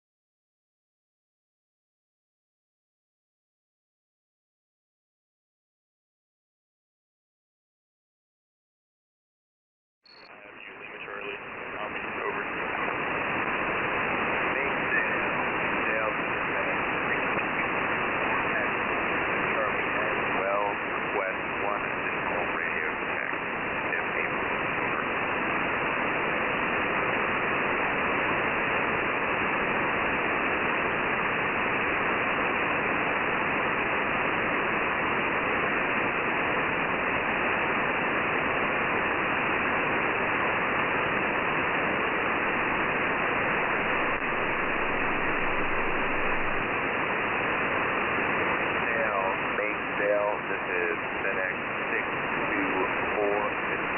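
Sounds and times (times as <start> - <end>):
radio static hiss: 10.1 - 53.9.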